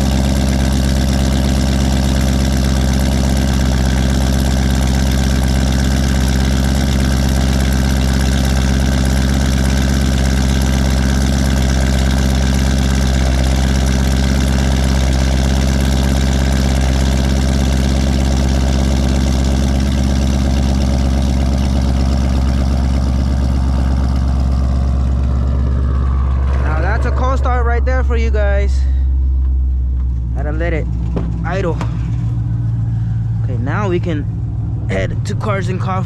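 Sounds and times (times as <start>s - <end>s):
car engine idling loudly: 0.0s - 36.0s.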